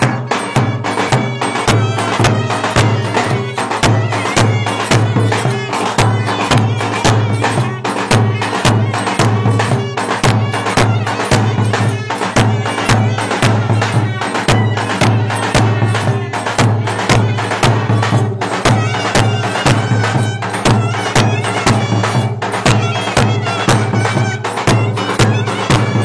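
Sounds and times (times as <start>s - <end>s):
clarinet: 0.0s - 26.0s
clattering percussion: 0.0s - 26.0s
drum beat: 0.0s - 26.0s.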